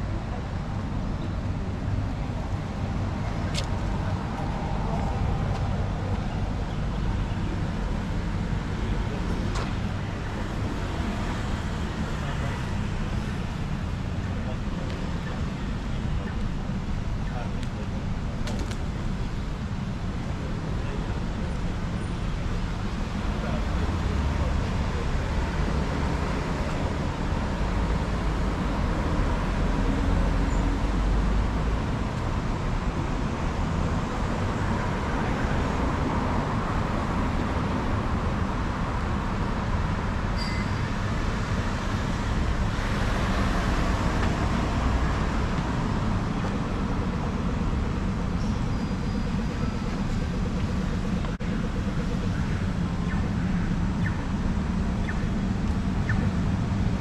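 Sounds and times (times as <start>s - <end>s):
passing cars rumbling: 0.0s - 57.0s.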